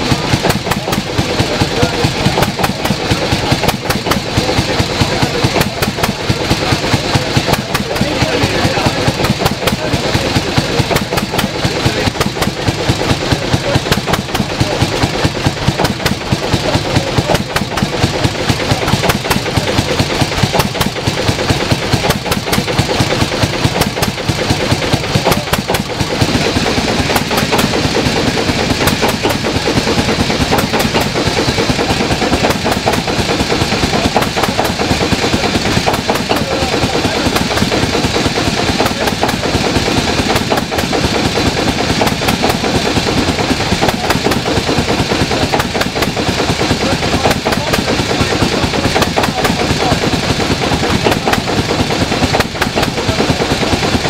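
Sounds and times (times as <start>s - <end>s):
stationary engine clattering: 0.0s - 54.0s.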